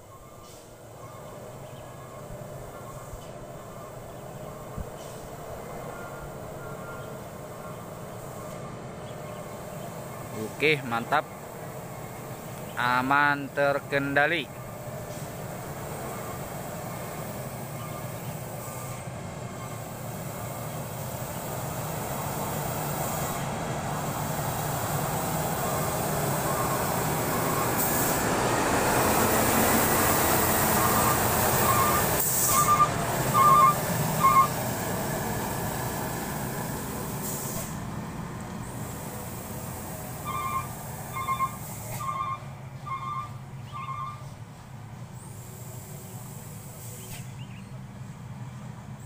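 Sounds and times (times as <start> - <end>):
truck diesel engine: 0.0 - 49.0.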